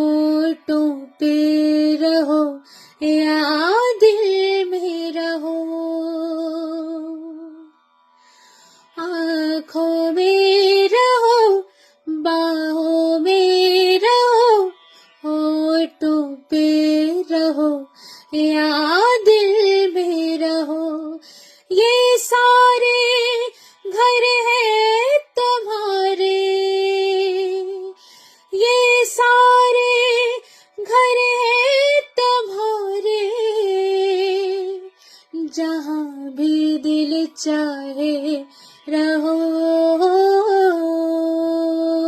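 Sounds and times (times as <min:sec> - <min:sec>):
woman singing with vibrato: 0:00.0 - 0:07.7, 0:09.0 - 0:42.0.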